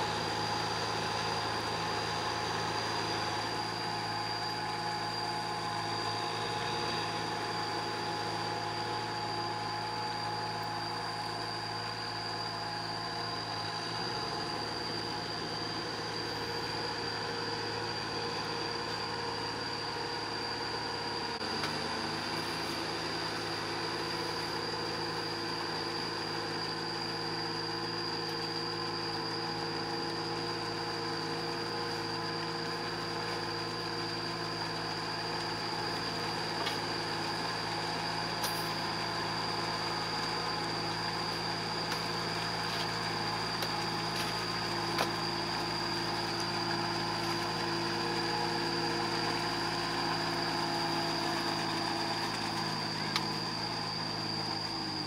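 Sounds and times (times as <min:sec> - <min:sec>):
high whine: 0:00.0 - 0:55.0
tractor engine running: 0:00.0 - 0:55.0.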